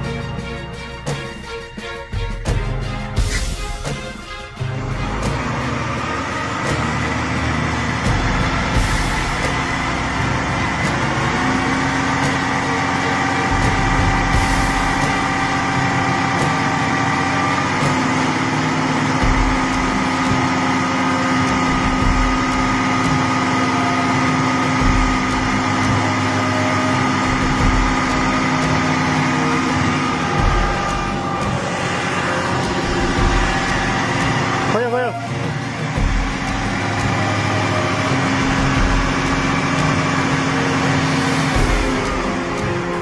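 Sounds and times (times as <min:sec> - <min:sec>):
diesel truck engine running: 0:00.0 - 0:43.0
whine over engine drone: 0:03.2 - 0:43.0.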